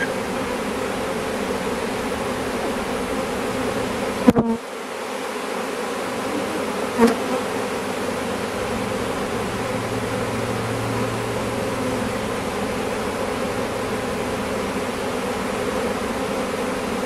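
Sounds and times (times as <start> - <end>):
bee swarm humming: 0.0 - 17.0
loud bee buzzes: 0.0 - 17.0.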